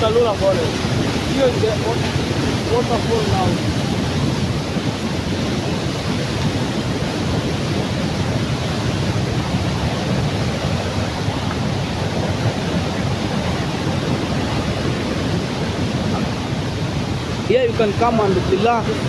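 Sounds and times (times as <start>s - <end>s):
waterfall rushing: 0.0s - 19.0s
wind buffeting microphone: 0.0s - 19.0s.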